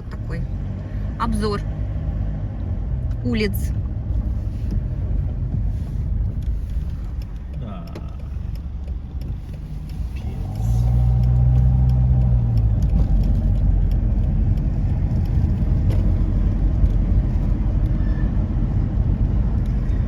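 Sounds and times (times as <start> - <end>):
car engine hum: 0.0 - 20.0
road noise rumble: 0.0 - 20.0.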